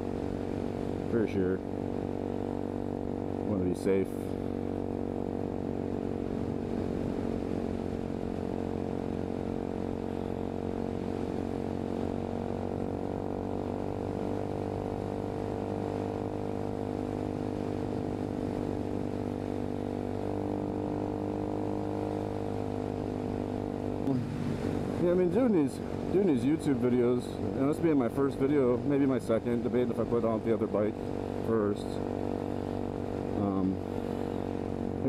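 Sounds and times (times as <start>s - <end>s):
motorcycle engine running steadily: 0.0s - 35.0s.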